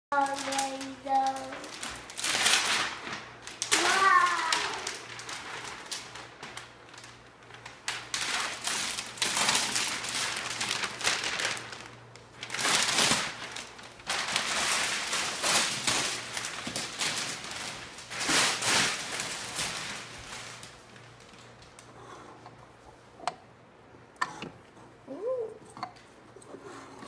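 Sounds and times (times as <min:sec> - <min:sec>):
wrapping paper tearing: 0:00.1 - 0:21.9.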